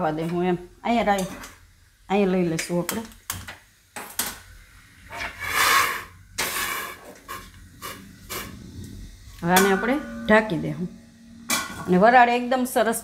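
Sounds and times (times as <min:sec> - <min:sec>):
gas burner igniting with hiss: 0:00.0 - 0:13.0.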